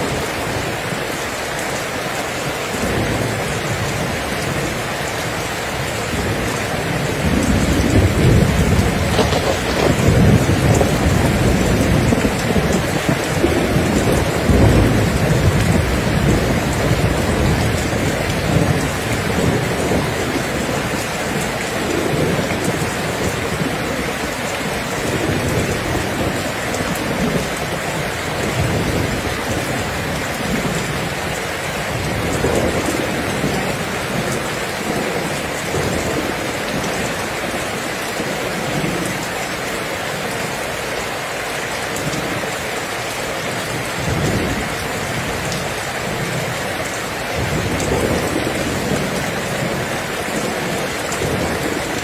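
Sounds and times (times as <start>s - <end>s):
heavy rain: 0.0s - 52.0s
thunder rumbling: 5.6s - 39.4s, 43.7s - 52.0s.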